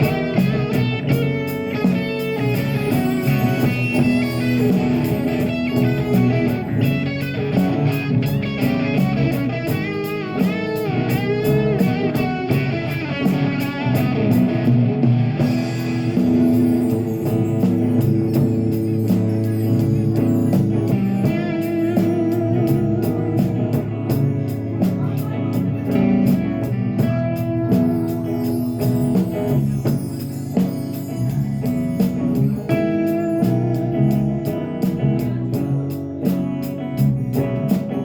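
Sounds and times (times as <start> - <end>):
electric guitar bent notes: 0.0 - 38.0
rock band playing: 0.0 - 38.0.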